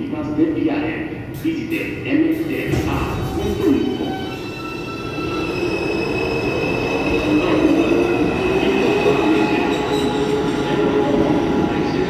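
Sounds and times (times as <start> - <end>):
train wheels rumbling on rails: 1.2 - 12.0
train high whine: 1.5 - 12.0.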